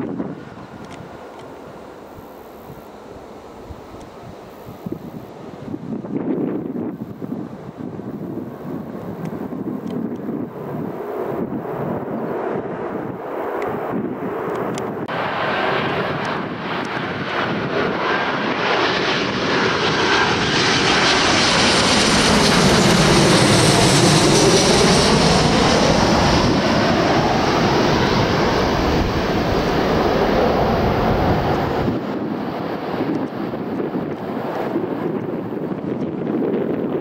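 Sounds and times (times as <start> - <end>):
airliner engines passing: 0.0 - 37.0.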